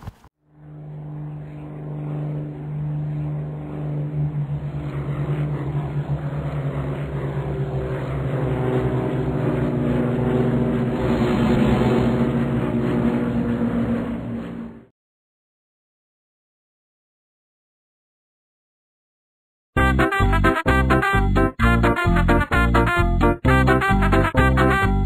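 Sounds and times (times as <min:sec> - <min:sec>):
propeller aeroplane engine drone: 0:00.0 - 0:14.9, 0:19.8 - 0:25.0.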